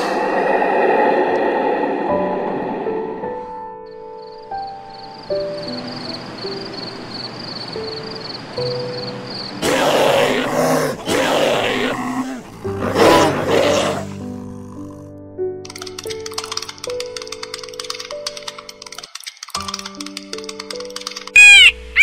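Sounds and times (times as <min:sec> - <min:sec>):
soft piano music: 0:02.0 - 0:09.6, 0:11.7 - 0:22.0.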